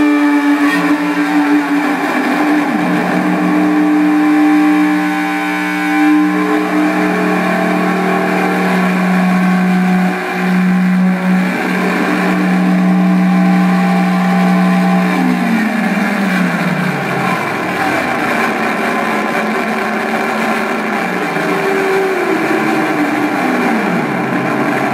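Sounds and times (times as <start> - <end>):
synthesizer drone: 0.0 - 24.9.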